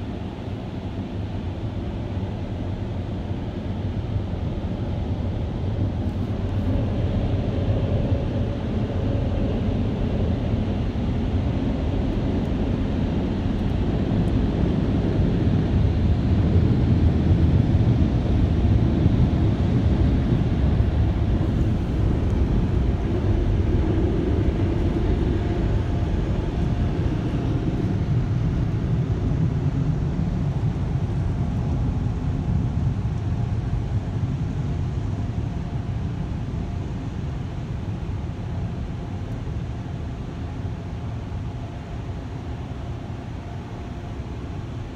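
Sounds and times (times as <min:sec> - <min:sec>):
car wash blowers rushing air: 0:00.0 - 0:44.9.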